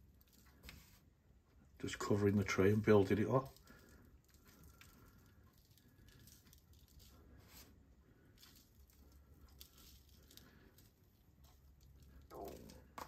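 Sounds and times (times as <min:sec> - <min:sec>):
crumbs pattering onto paper: 0:02.4 - 0:13.0.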